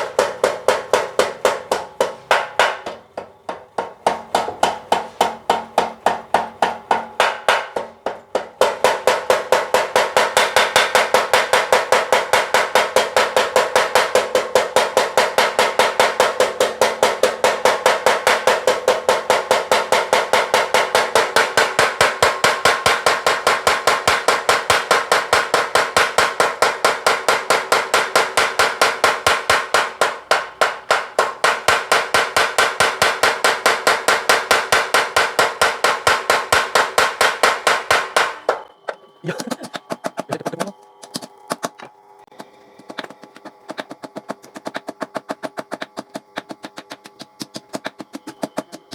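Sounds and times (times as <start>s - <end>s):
power hammer pounding metal: 0.0s - 40.7s.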